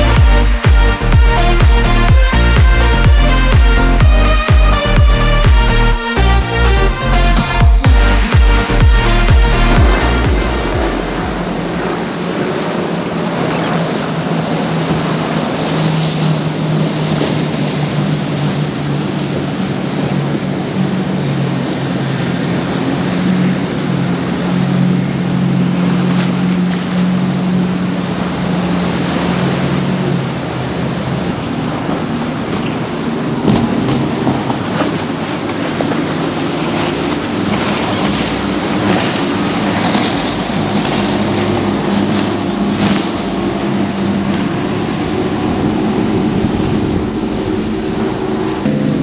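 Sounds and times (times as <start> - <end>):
powerboat engines droning: 0.0 - 49.0
waves: 0.0 - 49.0
wind: 0.0 - 49.0.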